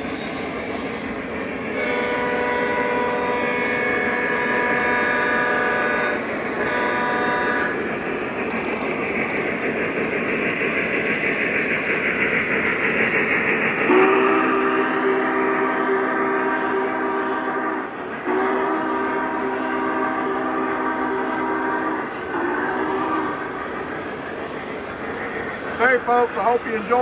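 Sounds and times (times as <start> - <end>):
model trains rattling: 0.3 - 27.0.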